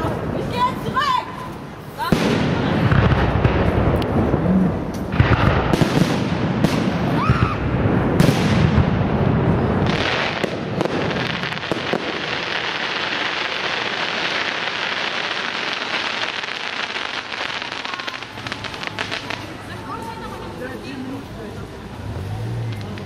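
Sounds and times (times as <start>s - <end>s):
firework crackling: 0.0s - 23.0s.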